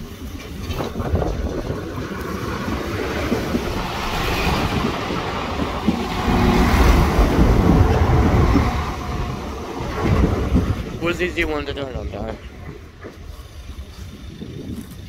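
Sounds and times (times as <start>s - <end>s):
diesel train passing: 0.0s - 14.7s.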